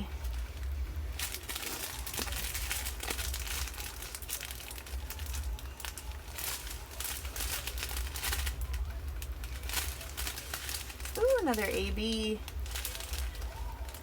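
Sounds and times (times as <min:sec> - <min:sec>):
low steady hum: 0:00.0 - 0:14.0
plastic bags crinkling: 0:00.0 - 0:14.0.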